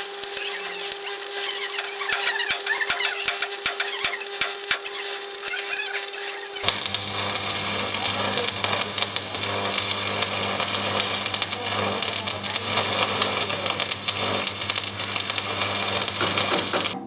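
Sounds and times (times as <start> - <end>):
welding arc crackling: 0.0 - 17.0
welding machine hum: 0.0 - 17.0.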